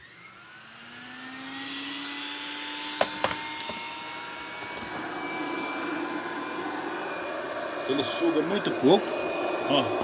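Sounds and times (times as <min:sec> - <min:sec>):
vacuum cleaner motor whine: 0:00.0 - 0:10.0.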